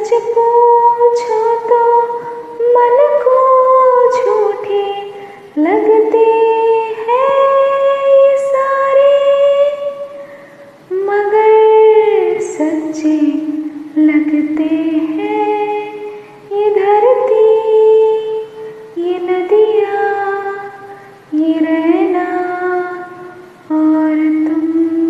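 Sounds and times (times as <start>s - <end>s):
woman singing wordless melody: 0.0s - 25.0s.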